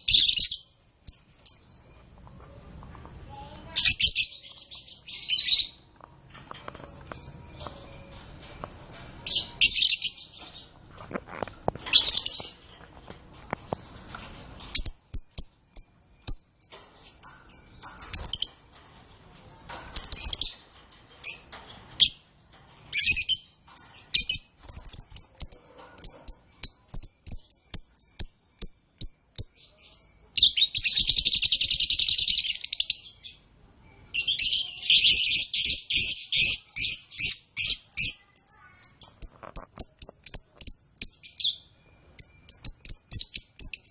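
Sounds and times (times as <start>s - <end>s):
canaries chirping and trilling: 0.0s - 43.9s.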